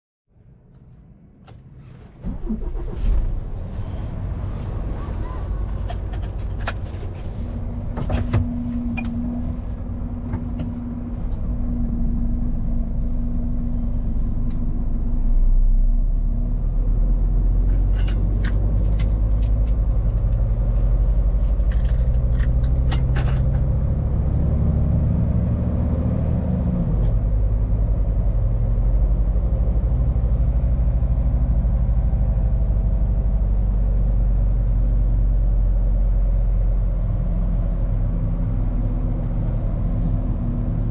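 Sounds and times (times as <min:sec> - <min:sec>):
truck diesel engine running: 0:02.3 - 0:40.9.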